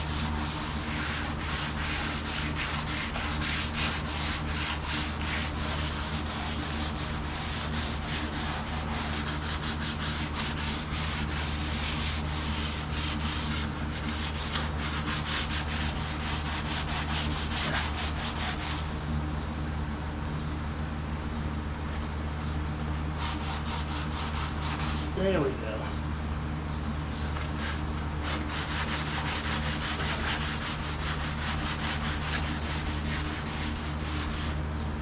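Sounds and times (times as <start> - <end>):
hand sanding sheet metal: 0.0 - 22.4, 23.1 - 34.6.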